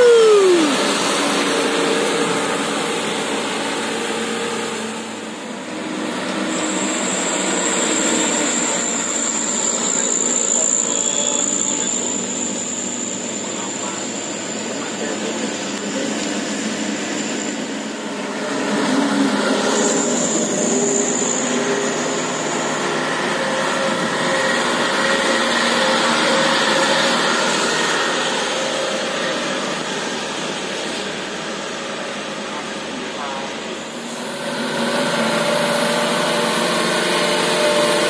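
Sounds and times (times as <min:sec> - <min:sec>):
truck diesel engine working hard: 0:00.0 - 0:38.0.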